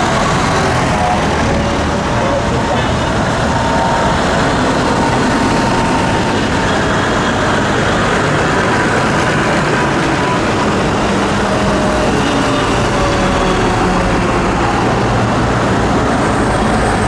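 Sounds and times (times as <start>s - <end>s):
tractors driving past: 0.0s - 17.0s.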